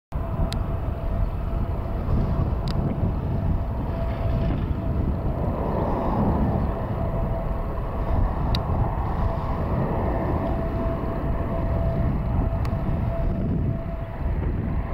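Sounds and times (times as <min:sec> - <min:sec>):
jet engines low rumble: 0:00.1 - 0:14.9.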